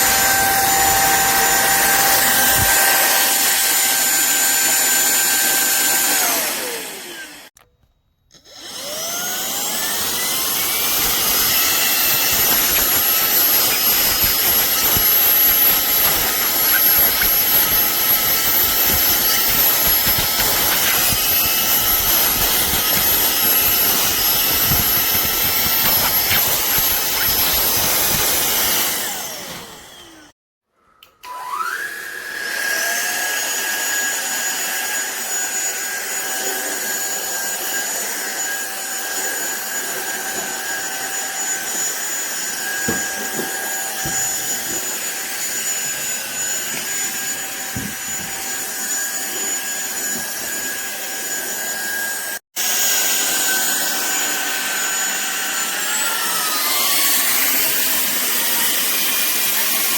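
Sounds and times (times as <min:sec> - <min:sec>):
vacuum cleaner motor whine: 0:00.0 - 0:07.6, 0:08.3 - 0:30.3, 0:31.0 - 0:59.9.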